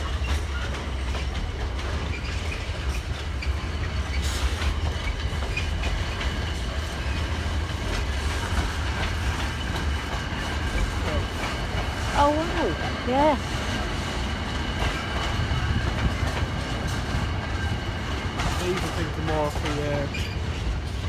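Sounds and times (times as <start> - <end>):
freight train rolling past: 0.0 - 21.0
wheels clacking over rail joints: 0.0 - 21.0.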